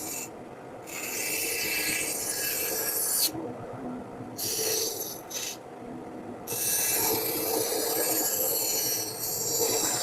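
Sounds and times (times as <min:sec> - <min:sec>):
carving tool scraping wood: 0:00.0 - 0:03.4, 0:04.4 - 0:05.6, 0:06.5 - 0:10.0.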